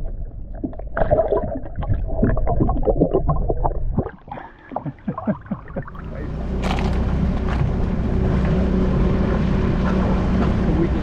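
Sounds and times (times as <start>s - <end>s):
underwater sloshing and bubbling: 0.0s - 11.0s.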